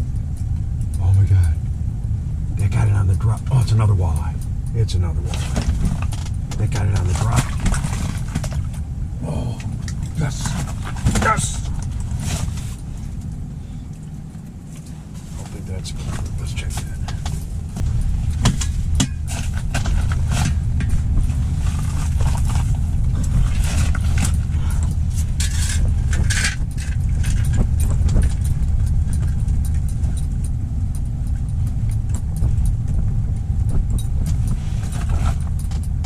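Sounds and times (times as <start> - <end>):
wind buffeting microphone: 0.0 - 36.0
clicks and light rattles: 2.7 - 8.9, 9.6 - 36.0.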